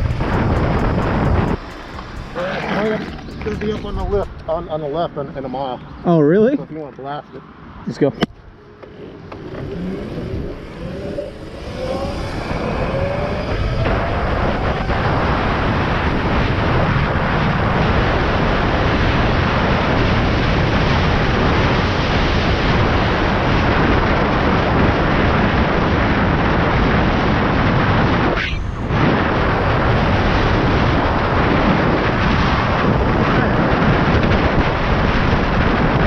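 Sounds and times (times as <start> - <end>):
wind blasting microphone: 0.0 - 6.5, 8.2 - 36.0.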